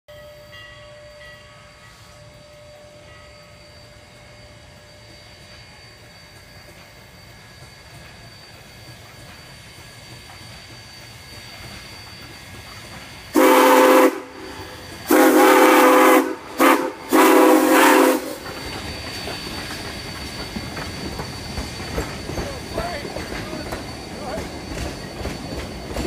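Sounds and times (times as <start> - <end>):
steam locomotive chime whistle: 0.1 - 26.0
train rumbling on rails: 0.1 - 26.0.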